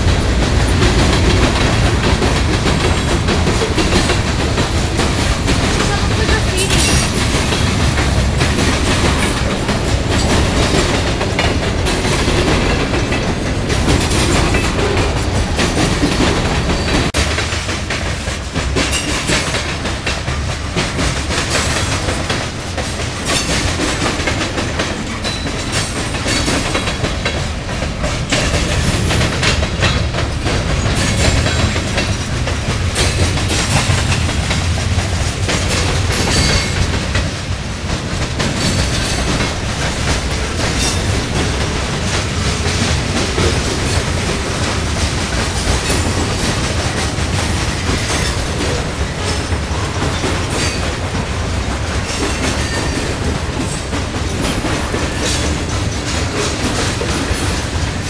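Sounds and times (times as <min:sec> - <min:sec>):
clickety-clack over rail joints: 0:00.0 - 0:58.0
wheels rumbling on rail: 0:00.0 - 0:58.0.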